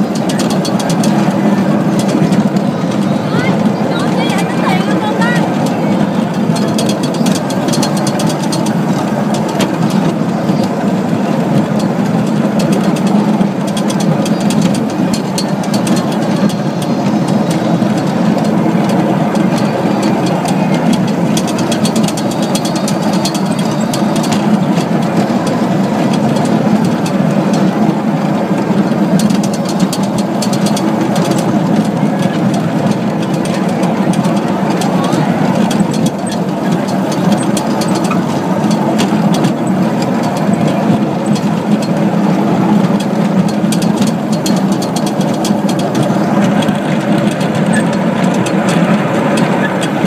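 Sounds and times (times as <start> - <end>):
light clicks and rattles: 0.0 - 50.0
toy train rumbling on rails: 0.0 - 50.0.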